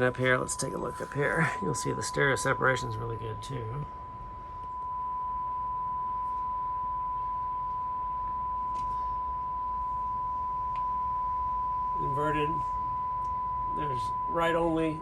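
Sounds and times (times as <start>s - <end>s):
high-pitched test tone: 0.0s - 15.0s.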